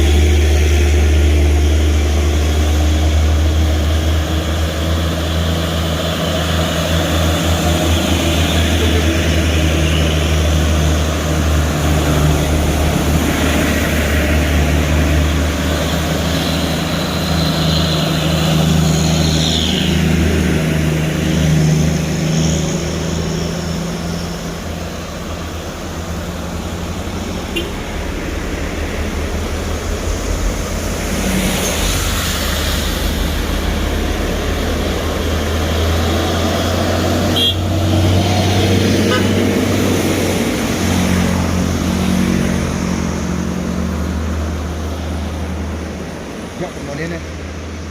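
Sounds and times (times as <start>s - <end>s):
diesel trucks droning uphill: 0.0s - 47.9s
road and traffic noise: 0.0s - 47.9s.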